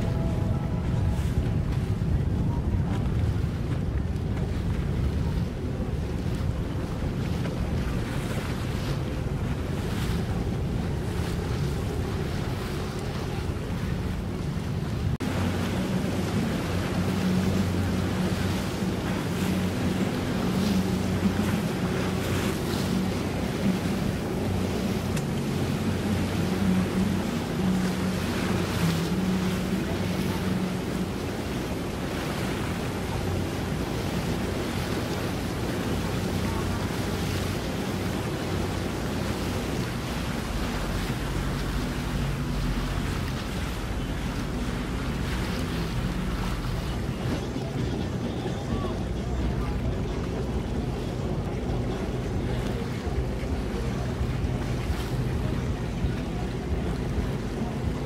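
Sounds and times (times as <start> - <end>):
boat engine idling: 0.0 - 58.0
water sounds: 0.0 - 58.0
waves washing: 0.0 - 58.0
wind rumbling on microphone: 0.0 - 58.0.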